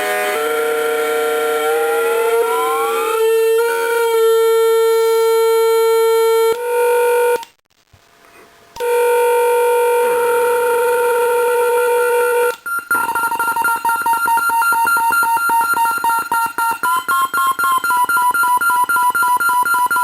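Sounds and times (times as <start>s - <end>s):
buzzy synthesiser drone tones: 0.0s - 7.4s, 8.8s - 18.5s.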